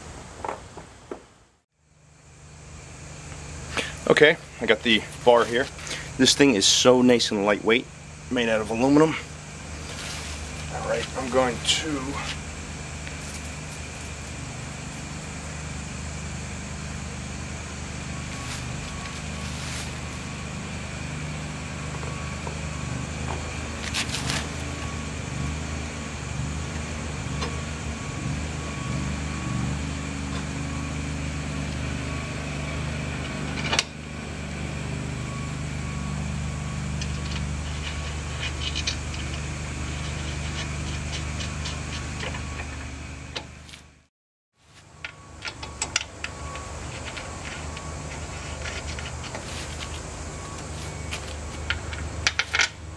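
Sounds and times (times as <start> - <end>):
low mechanical hum: 0.0 - 52.9.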